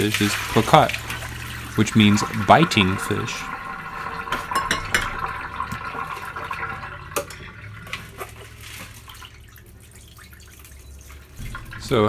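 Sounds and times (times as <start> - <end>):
water sloshing in glass bowl: 0.0 - 12.0.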